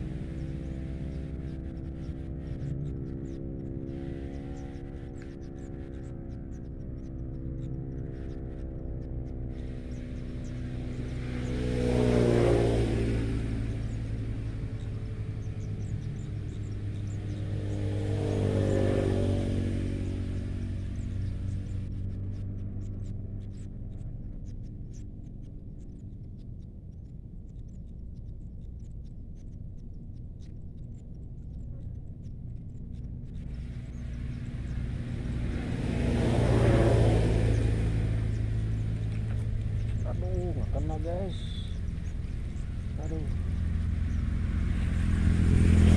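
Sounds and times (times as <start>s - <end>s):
road vehicles passing by: 0.0s - 45.9s
steady low hum: 0.0s - 45.9s.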